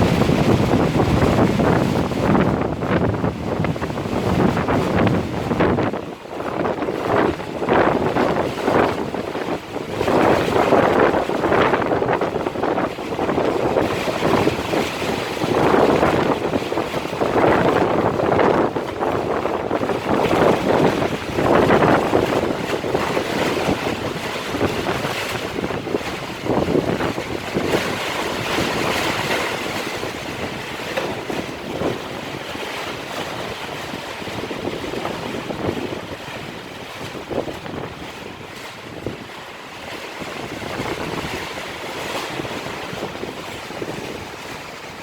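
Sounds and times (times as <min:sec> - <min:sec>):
gusty wind against scaffolding: 0:00.0 - 0:45.0
wind buffeting microphone: 0:00.0 - 0:45.0.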